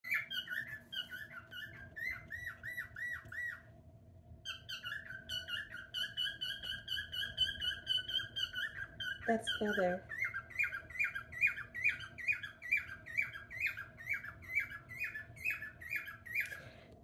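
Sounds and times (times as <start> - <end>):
cockatiel whistling: 0.0 - 3.7, 4.4 - 16.6.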